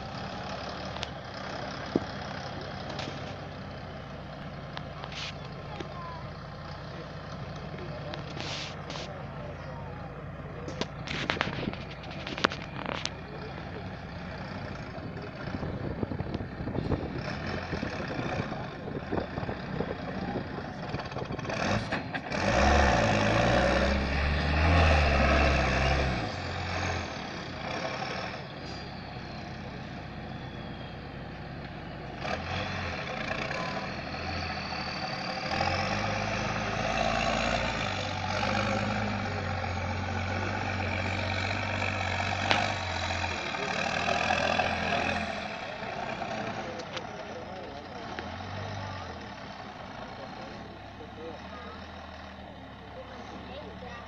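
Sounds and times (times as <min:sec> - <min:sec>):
truck engine under heavy load: 0:00.0 - 0:54.0.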